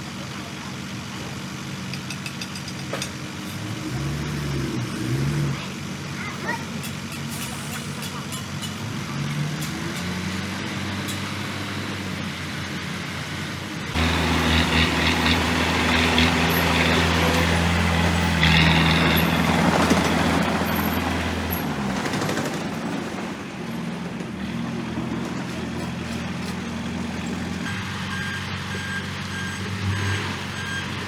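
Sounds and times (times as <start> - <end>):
heavy diesel engine revving: 3.4 - 31.0.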